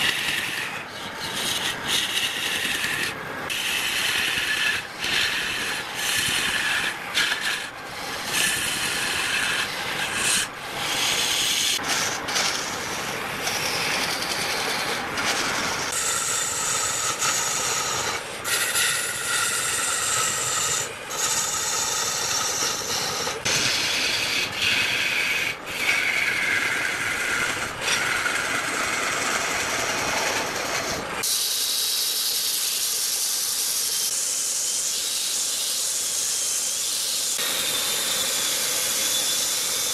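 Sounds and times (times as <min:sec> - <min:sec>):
lathe tool scraping spinning wood: 0:00.0 - 0:39.9
power sander hissing on wood: 0:00.0 - 0:39.9.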